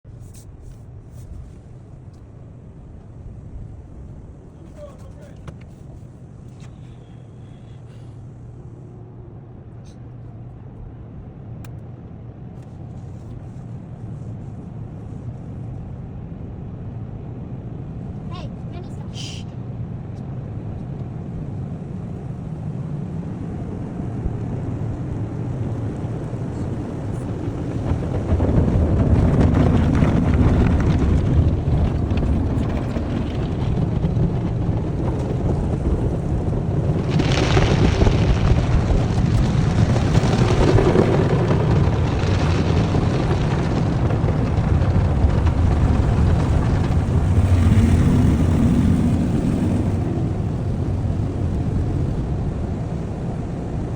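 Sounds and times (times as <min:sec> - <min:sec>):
muffled car wash machinery rumble: 0:00.1 - 0:53.9.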